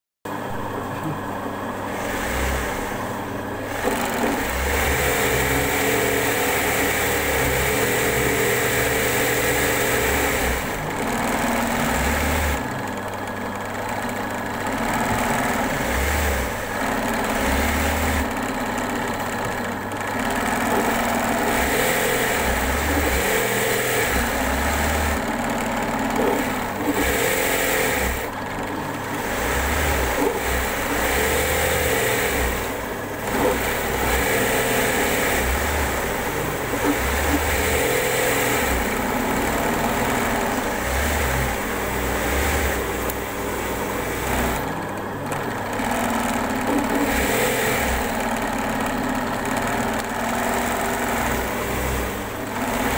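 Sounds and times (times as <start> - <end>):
engine running: 0.3 - 52.9.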